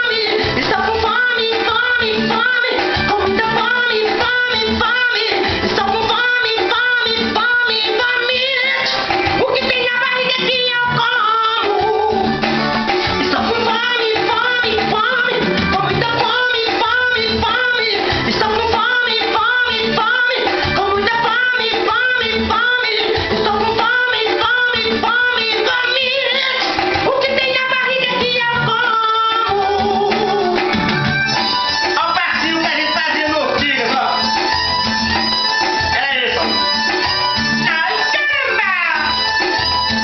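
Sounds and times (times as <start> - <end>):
person singing: 0.0 - 34.6, 35.5 - 40.0
instrumental accompaniment with beat: 0.0 - 40.0.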